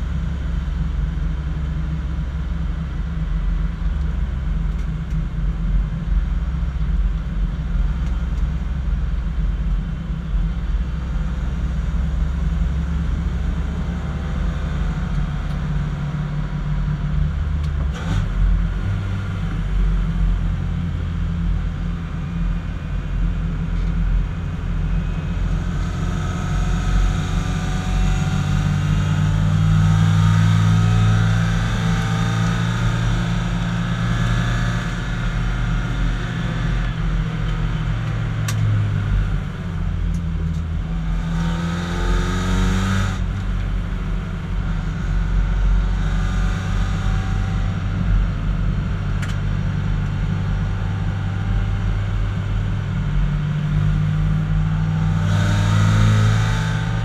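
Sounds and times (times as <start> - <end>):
race car engine under load: 0.0 - 57.0
wind and road noise: 0.0 - 57.0.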